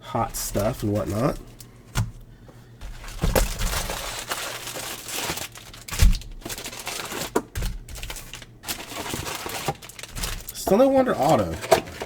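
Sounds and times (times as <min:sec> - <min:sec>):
foil wrapper crinkling: 0:00.2 - 0:02.1, 0:02.8 - 0:12.0.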